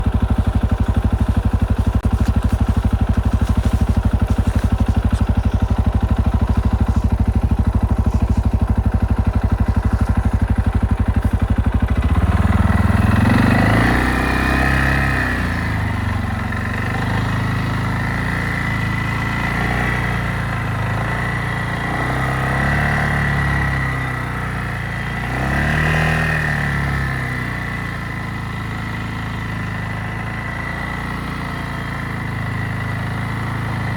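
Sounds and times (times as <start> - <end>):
quad bike engine revving: 0.0 - 33.9.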